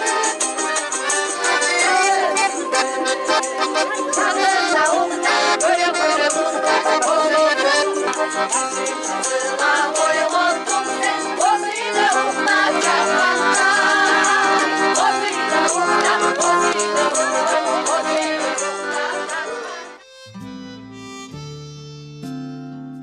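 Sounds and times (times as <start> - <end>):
background music with shaker rhythm: 0.0 - 19.9.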